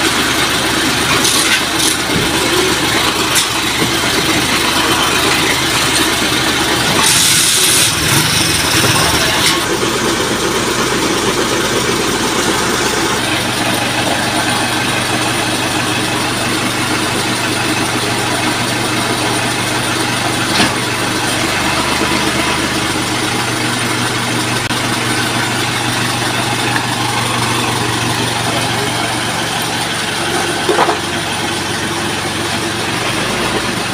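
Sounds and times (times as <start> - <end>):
truck engine running: 0.0 - 33.9.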